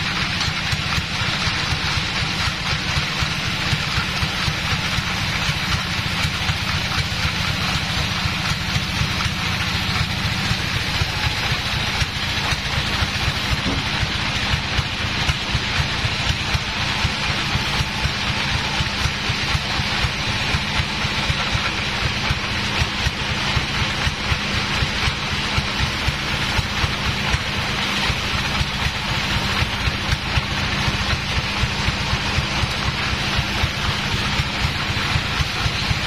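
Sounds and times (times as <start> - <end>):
band saw cutting log: 0.0 - 36.0.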